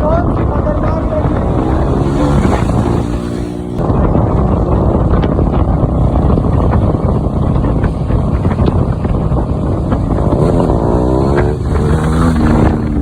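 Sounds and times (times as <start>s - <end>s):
motorcycle engine at speed: 0.0s - 13.0s
wind buffeting on microphone: 0.0s - 13.0s.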